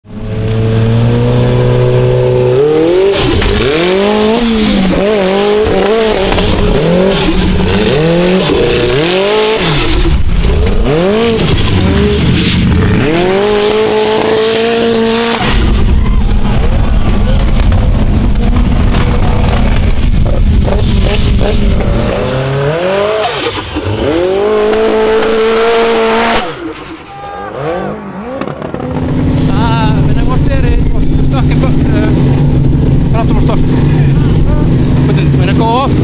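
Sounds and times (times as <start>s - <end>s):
buggy engine revving hard: 0.1s - 36.0s.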